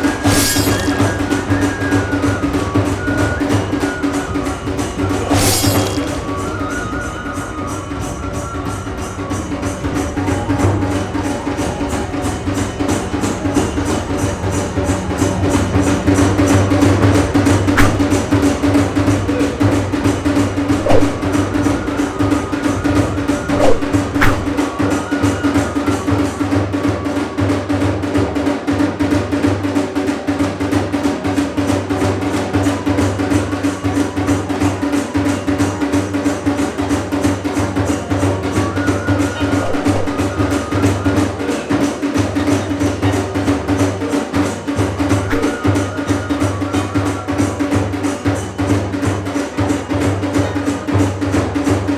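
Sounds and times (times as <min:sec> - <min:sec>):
fast drums and percussion: 0:00.0 - 0:51.9.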